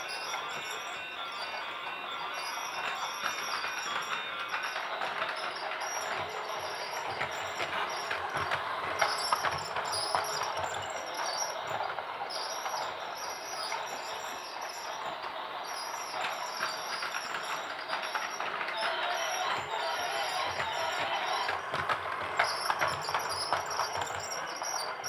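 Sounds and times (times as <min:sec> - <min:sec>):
toy train clattering on track: 0:00.0 - 0:25.0.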